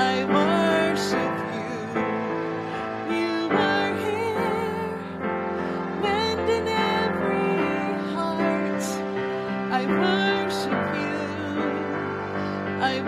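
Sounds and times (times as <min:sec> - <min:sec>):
keyboard accompaniment: 0:00.0 - 0:13.0
woman singing into microphone: 0:00.0 - 0:13.0.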